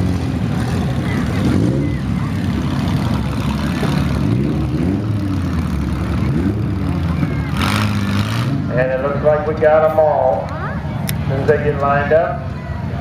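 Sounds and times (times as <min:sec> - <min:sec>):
car engines idling: 0:00.0 - 0:13.0
engines revving: 0:00.0 - 0:13.0.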